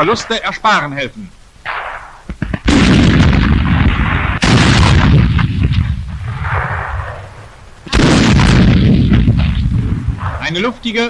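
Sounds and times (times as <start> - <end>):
artillery blasts rumbling: 1.6 - 11.0.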